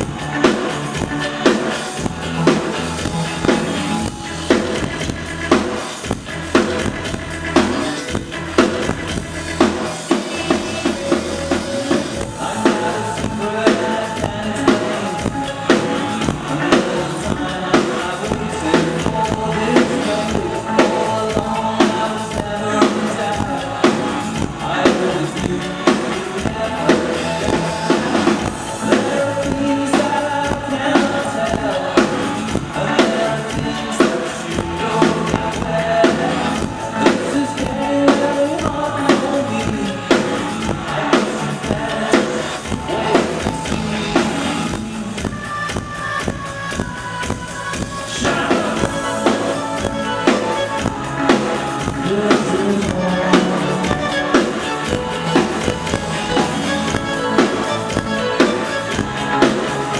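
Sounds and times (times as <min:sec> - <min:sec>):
drum kit beat: 0:00.0 - 0:59.9
keyboards: 0:00.0 - 0:59.9
live band playing: 0:00.0 - 0:59.9
person singing: 0:00.0 - 0:59.9.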